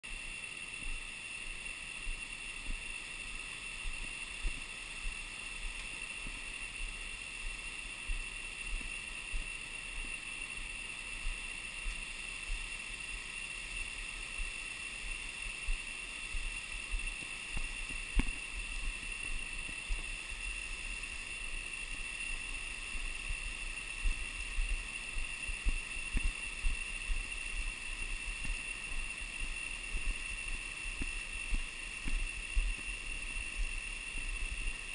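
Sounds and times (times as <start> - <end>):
high-pitched insect drone: 0.0 - 34.9.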